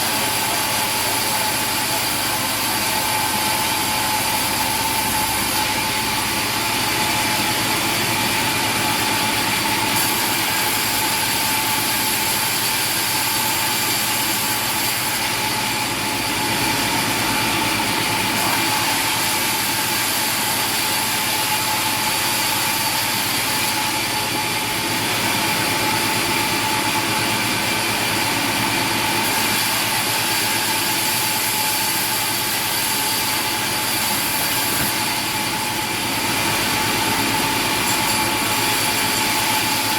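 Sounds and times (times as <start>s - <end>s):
machine running: 0.0s - 39.9s.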